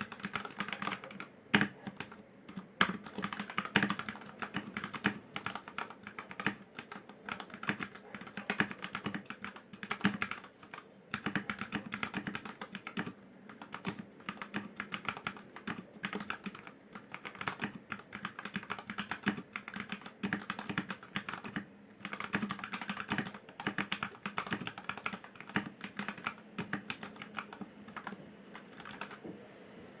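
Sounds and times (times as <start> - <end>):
mechanical keyboard typing: 0.0 - 29.2.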